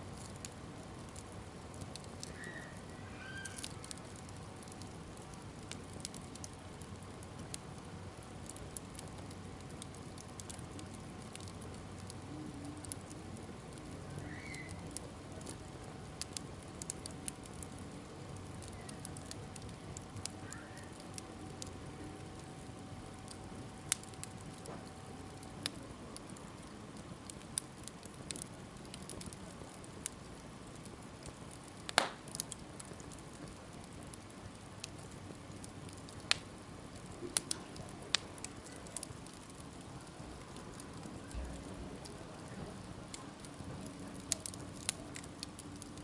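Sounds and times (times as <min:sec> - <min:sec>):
bonfire crackling: 0:00.0 - 0:46.0
sharp pops of fire: 0:00.1 - 0:46.0.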